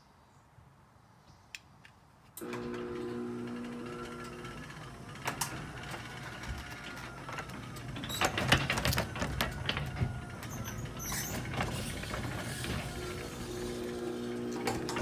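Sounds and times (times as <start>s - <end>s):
garage door opener running: 2.4s - 15.0s.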